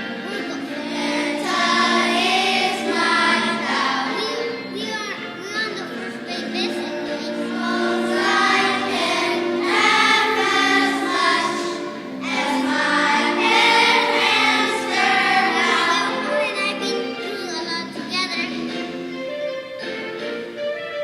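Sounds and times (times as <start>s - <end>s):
children's choir singing: 0.0s - 18.7s.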